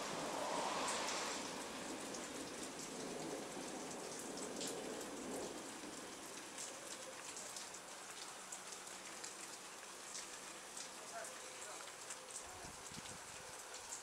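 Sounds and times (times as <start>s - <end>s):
rain hissing: 0.0s - 14.0s
raindrops ticking: 0.0s - 14.0s.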